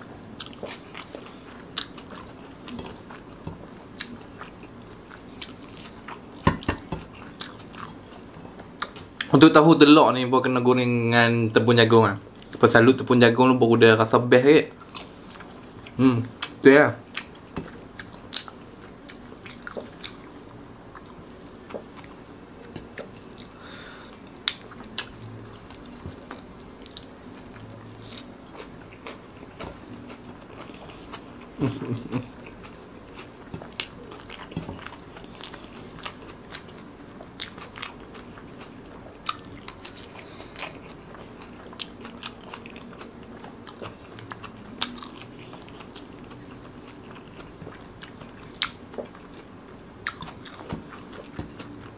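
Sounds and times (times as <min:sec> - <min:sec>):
chewing crispy food: 0:00.4 - 0:09.4, 0:14.7 - 0:51.9.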